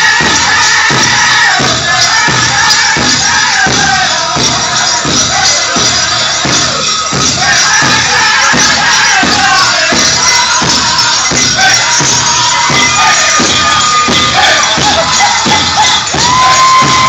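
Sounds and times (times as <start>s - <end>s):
big drum beats: 0.0s - 17.0s
high-pitched group singing: 0.0s - 17.0s
jingling bells: 0.0s - 17.0s.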